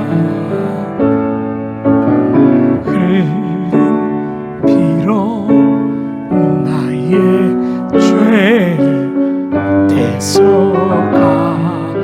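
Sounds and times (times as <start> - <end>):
man singing with vibrato: 0.0 - 1.2, 2.6 - 12.0
piano chords: 0.0 - 12.0.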